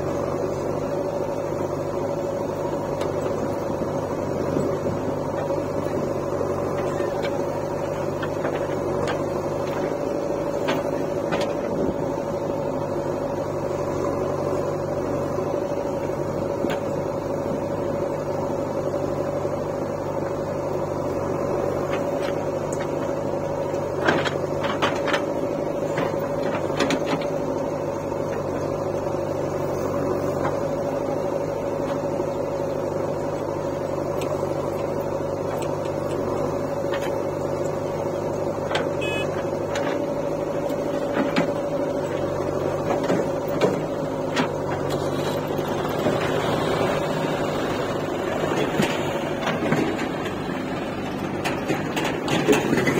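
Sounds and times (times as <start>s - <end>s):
constant whining tone: 0.0s - 52.9s
diesel engines running: 0.0s - 52.9s
loader bucket dumping soil: 0.0s - 52.9s.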